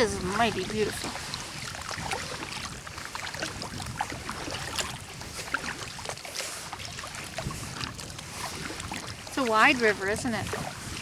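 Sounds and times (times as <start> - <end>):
small splashes: 0.0 - 11.0
water dripping off paddle: 0.0 - 11.0.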